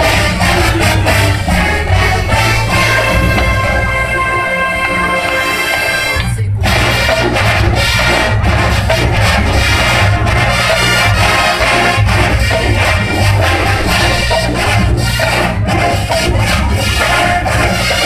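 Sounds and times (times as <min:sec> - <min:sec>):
held brass chord: 0:00.0 - 0:18.0
marching band playing: 0:00.0 - 0:18.0.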